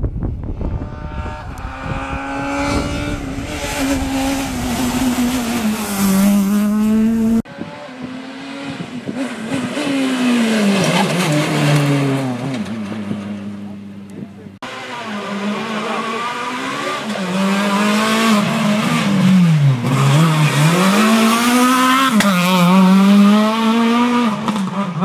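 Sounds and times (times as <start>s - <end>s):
rally car engine shifting gears: 0.6s - 25.0s.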